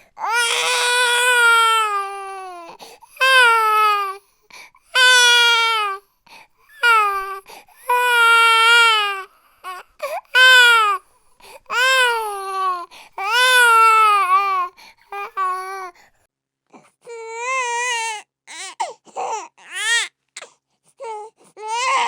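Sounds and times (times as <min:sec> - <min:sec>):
infant crying: 0:00.2 - 0:04.2, 0:04.9 - 0:06.0, 0:06.7 - 0:11.0, 0:11.6 - 0:16.0, 0:17.0 - 0:22.0.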